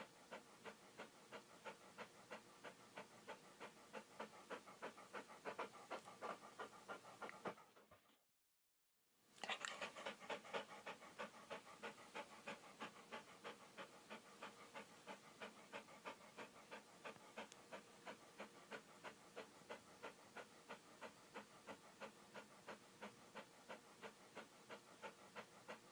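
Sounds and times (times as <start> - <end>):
dog panting: 0.0 - 8.3, 9.4 - 25.9.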